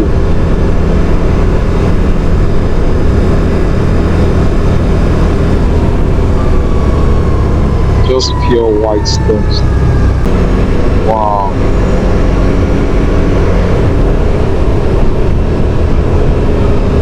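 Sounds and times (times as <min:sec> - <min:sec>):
thin whine: 0:00.0 - 0:17.0.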